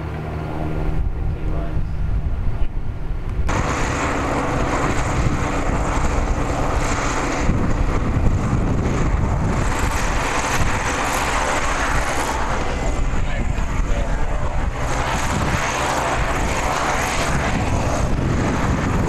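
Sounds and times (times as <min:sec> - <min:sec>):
engine rumble: 0:00.0 - 0:19.0
loud rushing noise: 0:00.0 - 0:19.0.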